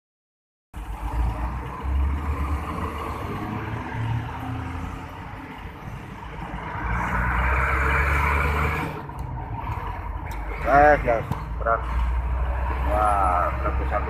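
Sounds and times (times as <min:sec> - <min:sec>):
trucks passing with diesel rumble: 0:00.8 - 0:14.0.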